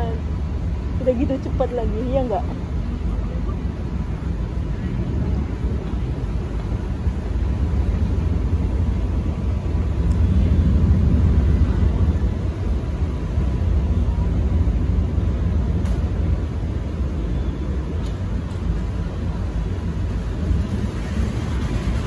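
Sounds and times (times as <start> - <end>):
ferry engine rumbling: 0.0 - 22.0
water noise: 0.0 - 22.0
wind noise: 0.0 - 22.0.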